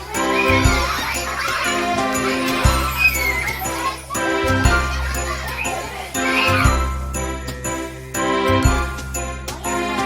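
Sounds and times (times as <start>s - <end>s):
jingling bell-like percussion: 0.0s - 10.0s.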